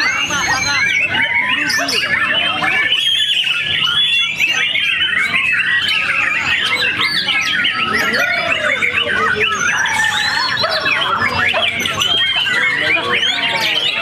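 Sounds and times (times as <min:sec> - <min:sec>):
bird singing whistles and trills: 0:00.0 - 0:14.0
other caged birds singing: 0:00.0 - 0:14.0.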